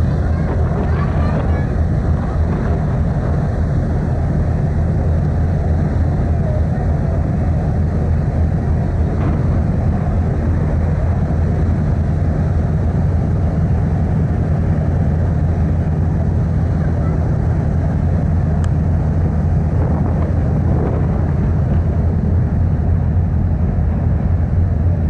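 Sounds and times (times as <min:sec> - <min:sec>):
ship engines droning: 0:00.0 - 0:25.0
wind and water rushing: 0:00.0 - 0:25.0.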